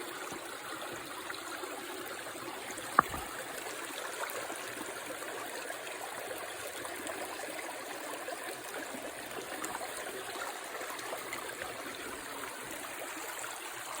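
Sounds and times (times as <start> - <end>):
creek water running over rocks: 0.0 - 14.0.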